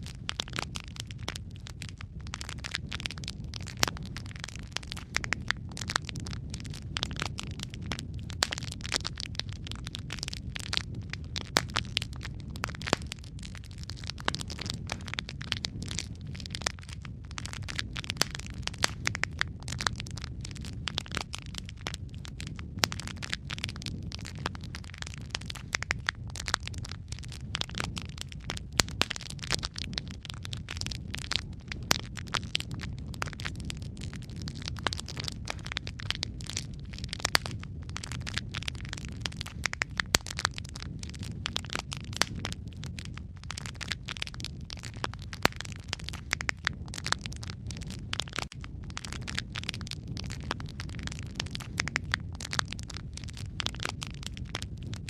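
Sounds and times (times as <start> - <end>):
logs crackling and popping: 0.0 - 55.0
low rumble of flame: 0.0 - 55.0.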